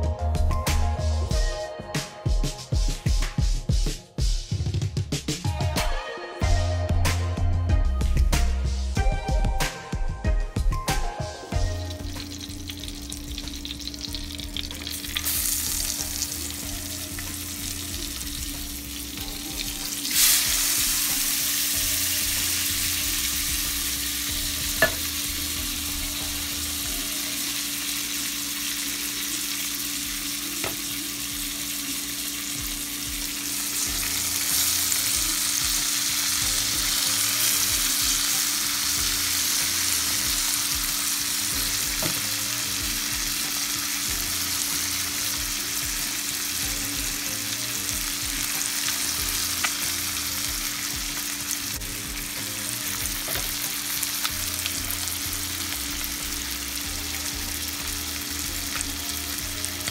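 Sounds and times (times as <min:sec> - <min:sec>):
fish sizzling in oil: 0:10.9 - 0:59.9.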